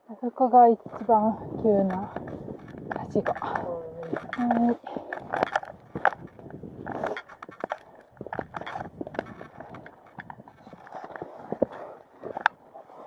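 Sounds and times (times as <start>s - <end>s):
hiker's footsteps: 0.5s - 13.0s
gear knocking and rustling: 0.6s - 13.0s.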